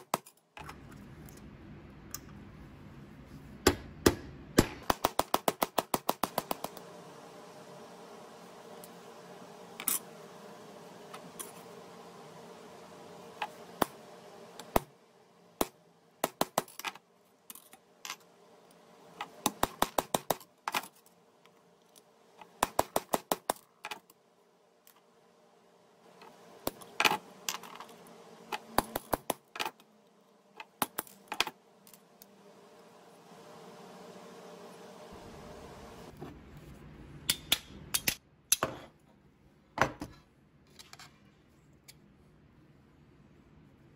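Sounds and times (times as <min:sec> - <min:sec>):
steady low hum: 0:00.0 - 0:38.2.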